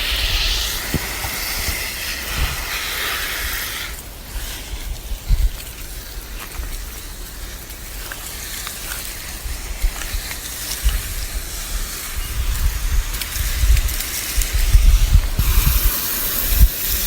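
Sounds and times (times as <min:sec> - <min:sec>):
garden hose spraying water: 0:00.0 - 0:17.0
water ticking on plants: 0:00.0 - 0:17.0.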